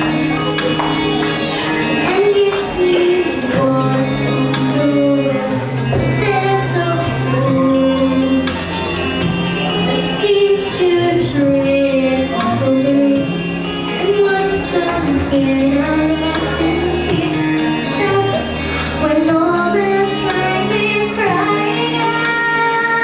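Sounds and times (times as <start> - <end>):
instrumental accompaniment: 0.0 - 23.0
sustained bass notes: 0.0 - 23.0
women singing: 1.6 - 8.6, 9.8 - 23.0.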